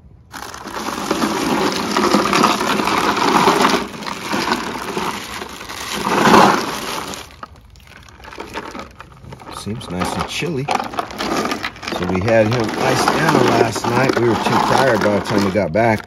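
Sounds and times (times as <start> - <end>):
ice cubes crunching and clattering: 0.3 - 16.0
plastic bag rustling: 0.3 - 16.0.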